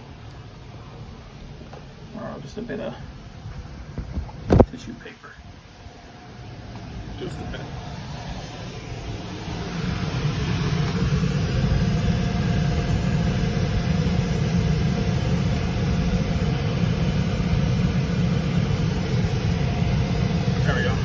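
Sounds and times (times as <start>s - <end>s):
shop vacuum running: 0.0s - 21.0s.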